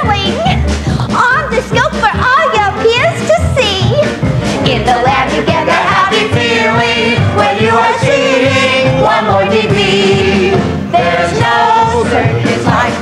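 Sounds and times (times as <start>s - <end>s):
voices singing show tune: 1.2s - 13.0s.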